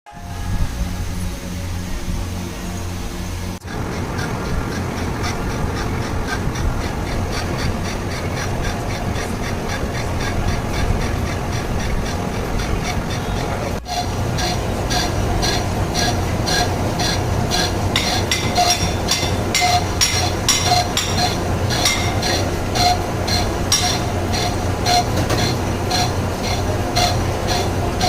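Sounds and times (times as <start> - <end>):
low machine hum: 0.1 - 28.0.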